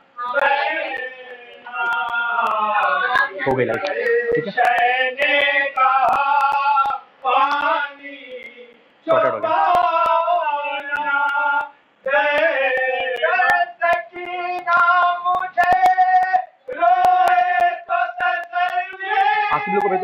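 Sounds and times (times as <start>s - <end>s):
man singing a lament: 0.8s - 20.0s.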